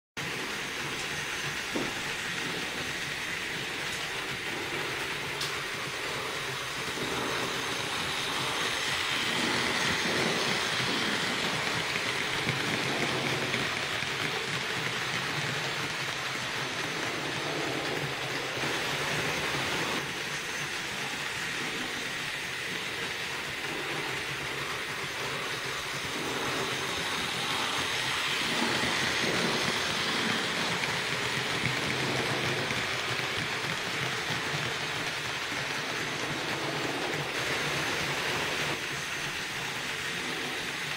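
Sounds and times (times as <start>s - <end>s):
model train wheels rattling: 0.2s - 40.9s.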